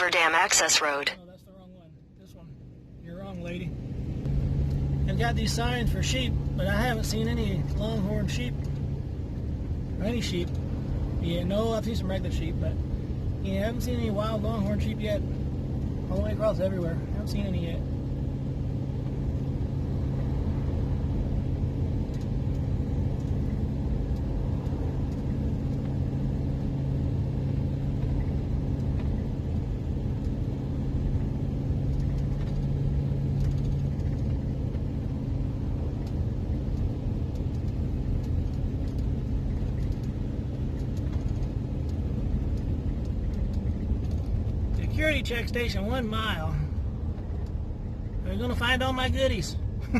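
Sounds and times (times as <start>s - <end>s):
engine and road rumble in cab: 0.0s - 49.9s.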